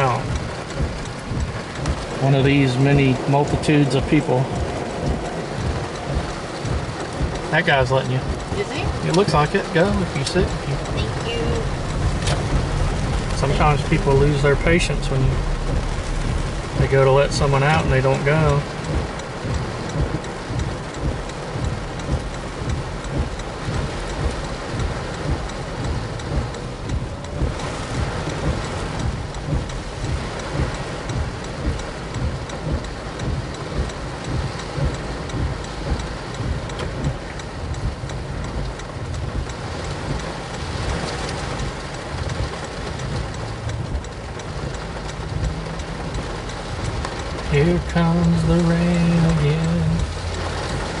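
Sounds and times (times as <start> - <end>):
heavy rain on car roof: 0.0 - 51.0
road and engine rumble: 0.0 - 51.0.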